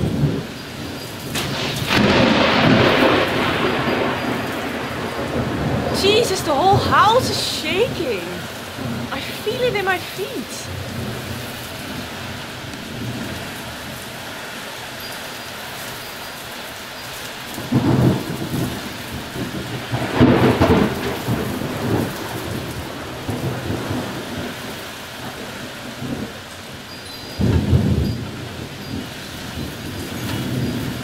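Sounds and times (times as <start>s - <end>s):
thunder claps: 0.0s - 14.2s, 17.5s - 26.4s, 27.4s - 31.0s
heavy rain pouring: 0.0s - 31.0s.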